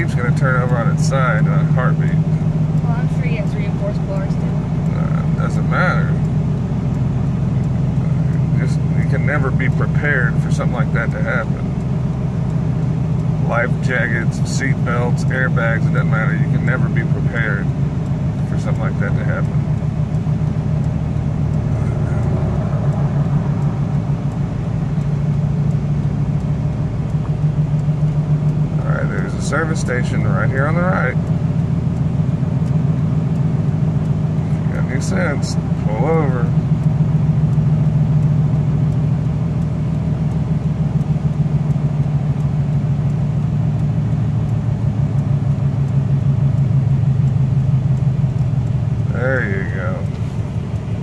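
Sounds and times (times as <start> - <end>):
car cabin road and engine rumble: 0.0 - 51.0.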